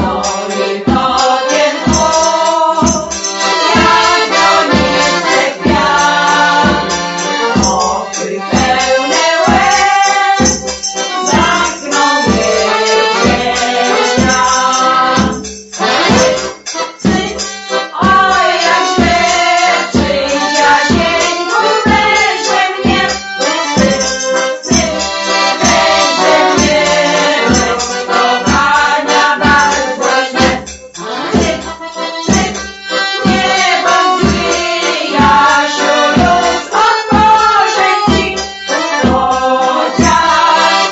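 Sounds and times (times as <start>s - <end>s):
women singing: 0.0s - 15.4s, 17.0s - 40.9s
steady beat: 0.0s - 37.5s
accordion playing: 0.0s - 40.9s.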